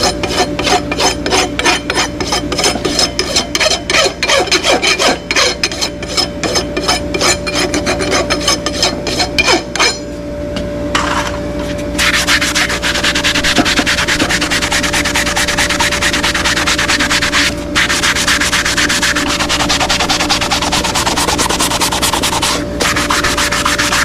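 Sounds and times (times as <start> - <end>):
rasp filing a hoof: 0.0 - 10.0, 12.0 - 24.0.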